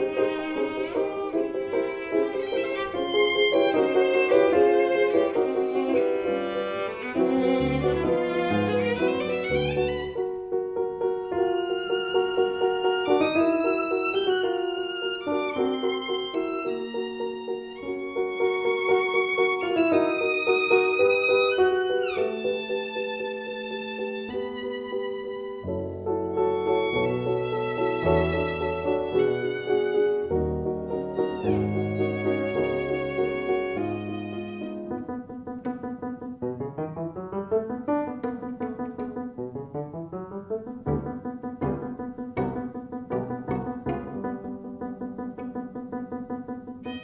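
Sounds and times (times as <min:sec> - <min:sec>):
instrumental music: 0:00.0 - 0:47.0.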